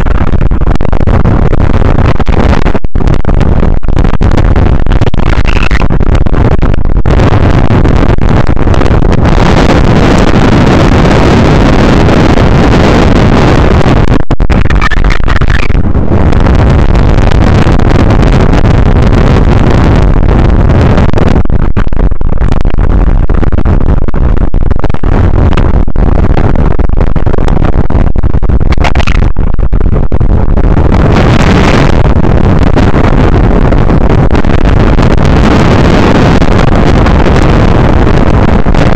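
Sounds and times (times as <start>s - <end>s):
wind blasting microphone: 0.0s - 38.9s.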